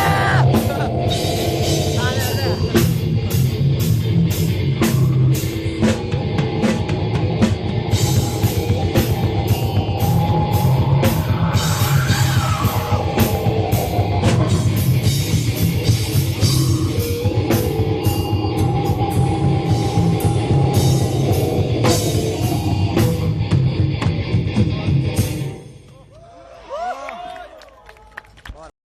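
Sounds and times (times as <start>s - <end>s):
live rock band playing: 0.0s - 25.9s.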